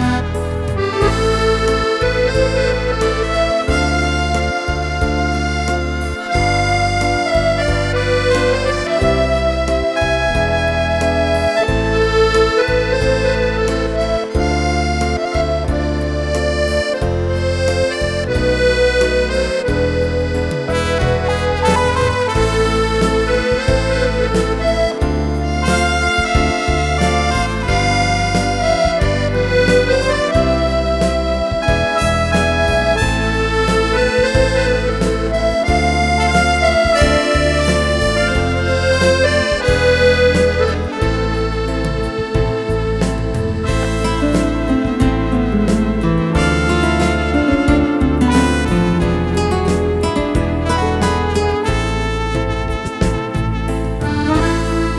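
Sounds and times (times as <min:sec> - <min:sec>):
accordion playing slow melody: 0:00.0 - 0:54.9.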